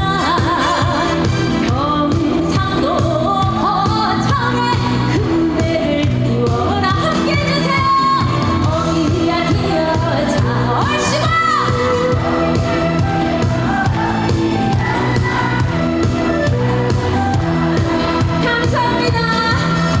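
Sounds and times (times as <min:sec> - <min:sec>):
amplified backing music: 0:00.0 - 0:20.0
woman singing with vibrato: 0:00.0 - 0:20.0.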